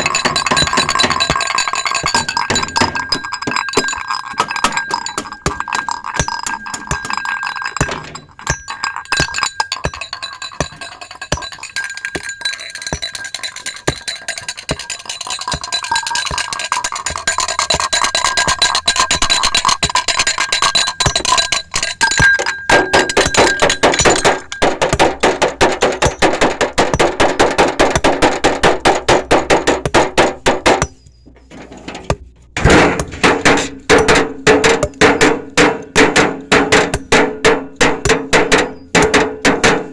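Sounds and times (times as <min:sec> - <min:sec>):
fast hammer strikes: 0:00.0 - 0:31.0, 0:32.1 - 0:39.9
clinking and knocking: 0:00.0 - 0:39.9.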